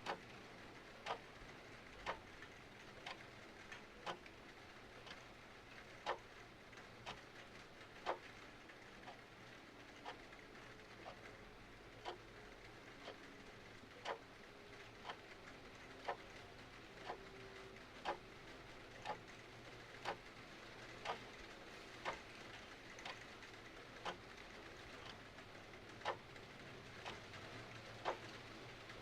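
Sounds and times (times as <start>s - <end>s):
clock ticking: 0.0s - 0.2s, 0.8s - 1.4s, 2.0s - 4.4s, 5.0s - 6.3s, 7.0s - 8.3s, 9.9s - 29.0s
faint rain hiss: 0.0s - 29.0s.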